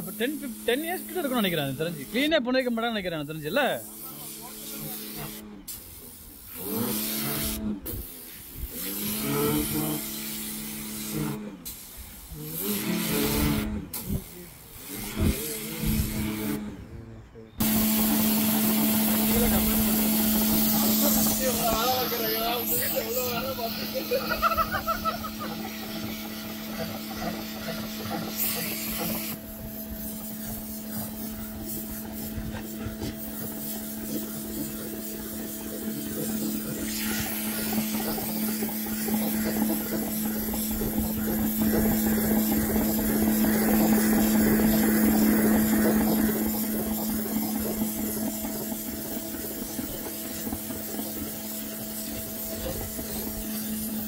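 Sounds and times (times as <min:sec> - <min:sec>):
water jet spraying on paving: 0:00.0 - 0:16.6, 0:17.6 - 0:54.0
pressure washer motor hum: 0:00.0 - 0:16.8, 0:17.6 - 0:54.0.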